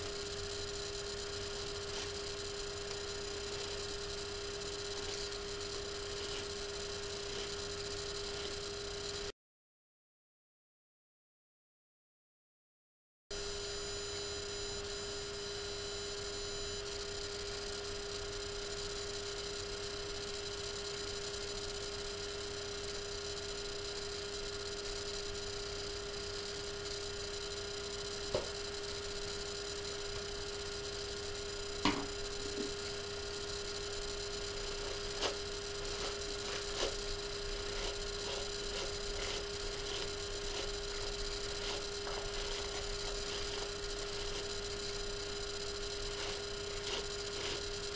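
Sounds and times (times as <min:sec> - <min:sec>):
electrical hum with high whine: 0:00.0 - 0:09.3, 0:13.3 - 0:47.9.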